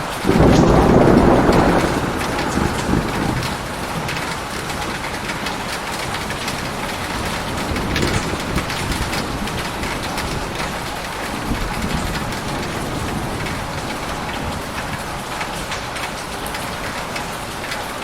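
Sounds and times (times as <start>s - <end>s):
rain pattering: 0.0s - 18.0s
thunder rumble: 0.2s - 17.0s.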